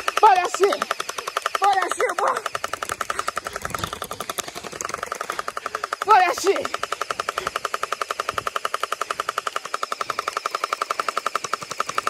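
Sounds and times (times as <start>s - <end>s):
toy blaster rapid firing: 0.0s - 12.0s.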